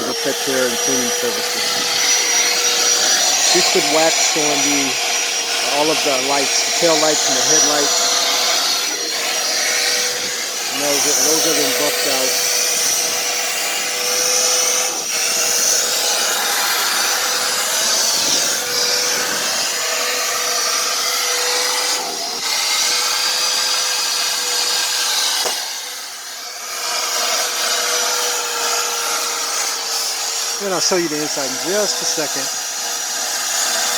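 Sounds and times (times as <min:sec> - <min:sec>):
small electric motor whining: 0:00.0 - 0:33.9.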